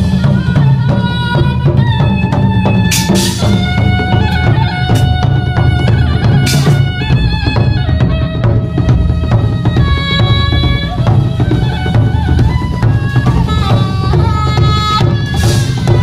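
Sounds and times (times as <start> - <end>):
steady drumming: 0.0 - 16.0.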